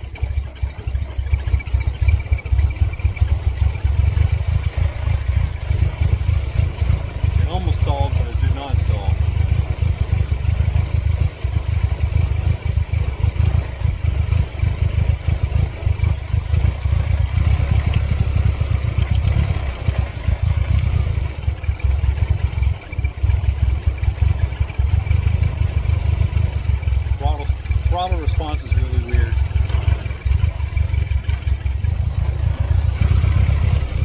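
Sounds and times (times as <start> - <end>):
car engine idling unevenly: 0.0 - 34.0.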